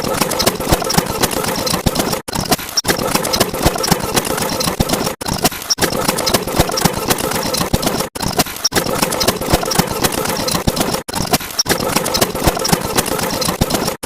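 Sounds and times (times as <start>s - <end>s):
rattling mechanical engine: 0.0s - 14.0s.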